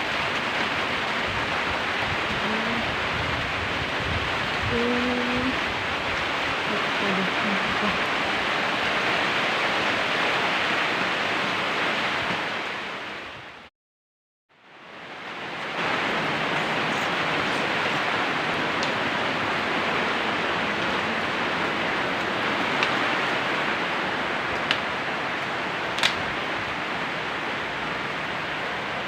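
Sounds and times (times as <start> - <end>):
heavy rain pouring: 0.0 - 13.7, 14.6 - 29.0.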